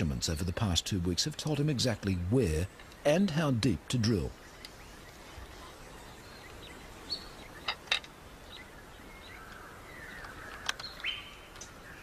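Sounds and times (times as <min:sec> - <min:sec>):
bird chirps and calls: 0:00.0 - 0:12.0
faint background hiss: 0:00.0 - 0:12.0.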